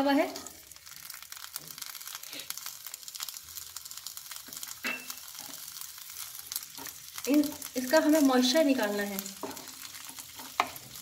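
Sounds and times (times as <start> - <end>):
peas sizzling in hot oil: 0.0 - 11.0.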